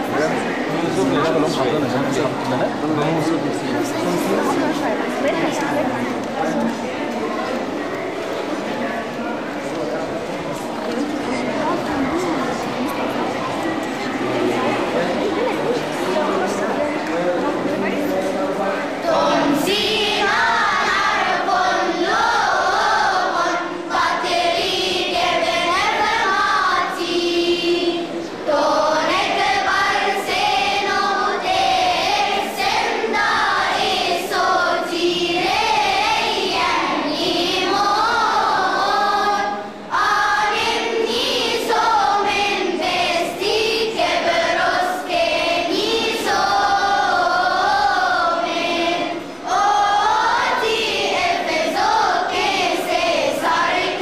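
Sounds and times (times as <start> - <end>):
children's choir singing a hymn: 0.0 - 54.0.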